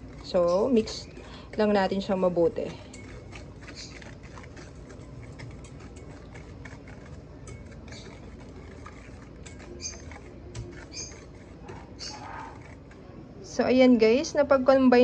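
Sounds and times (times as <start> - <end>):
whisk tapping a metal bowl: 0.0 - 13.1.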